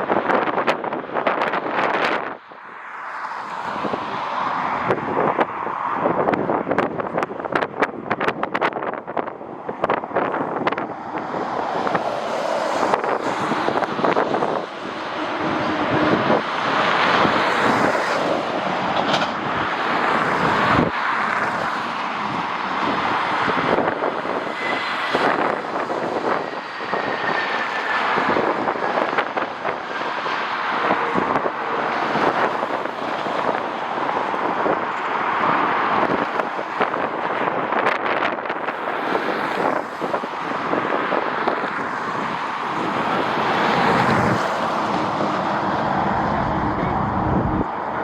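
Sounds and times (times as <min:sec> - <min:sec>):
wind buffeting microphone: 0:00.0 - 0:02.8, 0:03.5 - 0:48.0
jet engines passing: 0:08.9 - 0:48.0.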